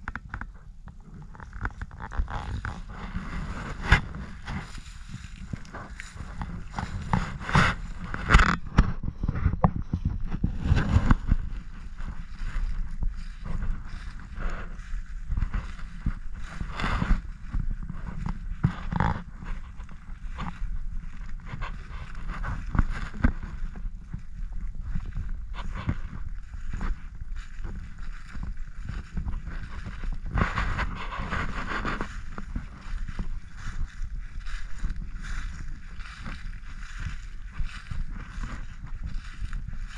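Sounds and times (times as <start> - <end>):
footsteps through dry grass: 0.0 - 39.9
wind rumble on microphone: 0.0 - 39.9.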